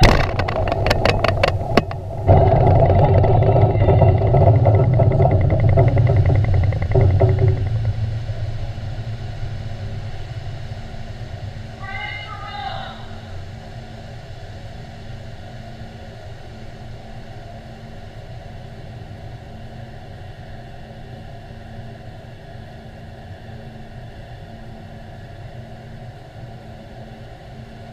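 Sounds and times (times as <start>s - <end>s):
engine rumble: 0.0s - 27.9s
low hum: 0.0s - 27.9s.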